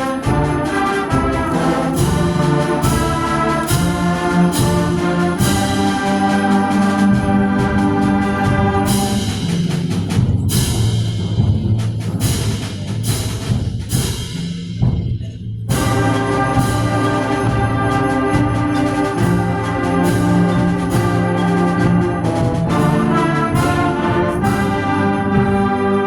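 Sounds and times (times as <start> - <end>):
concert band playing: 0.0 - 14.4, 15.7 - 26.0
percussion strikes: 0.0 - 26.0.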